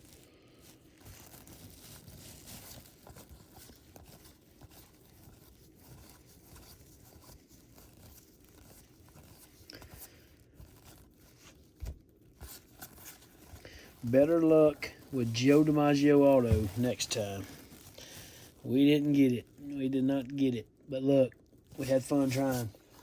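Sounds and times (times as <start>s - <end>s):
wrapper tearing and crinkling: 0.0s - 19.8s
soft rustles and clicks: 0.0s - 23.0s.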